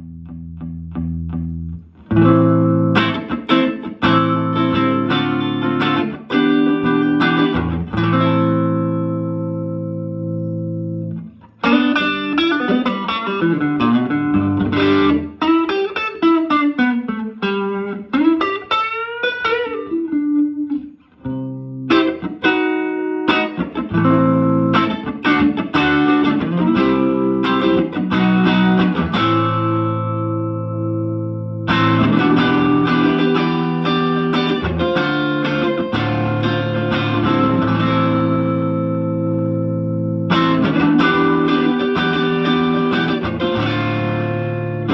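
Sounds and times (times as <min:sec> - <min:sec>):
electric guitar chords ringing: 0:00.0 - 0:44.9
electric guitar lead line: 0:00.0 - 0:44.9.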